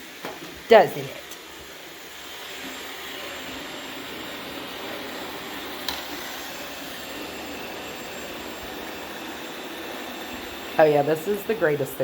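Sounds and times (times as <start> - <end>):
robot vacuum whirring: 1.0 - 12.0.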